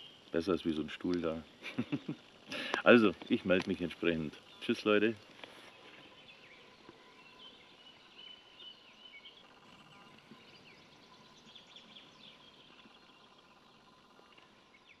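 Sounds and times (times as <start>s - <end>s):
faint birdsong: 0.0s - 15.0s
outdoor background hiss: 0.0s - 15.0s.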